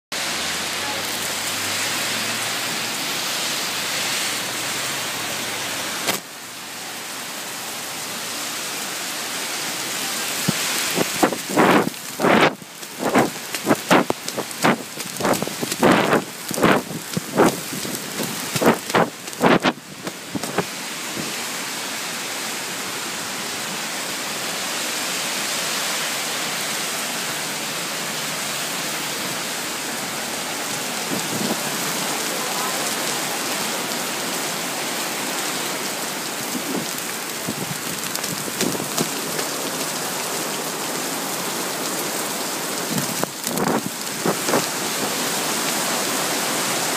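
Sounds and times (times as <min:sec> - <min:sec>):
heavy rain on wet street: 0:00.1 - 0:46.9.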